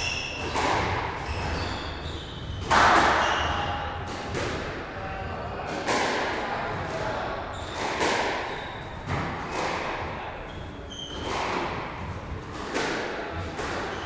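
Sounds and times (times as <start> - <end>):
squash balls hitting walls: 0.0 - 4.8, 5.6 - 14.0.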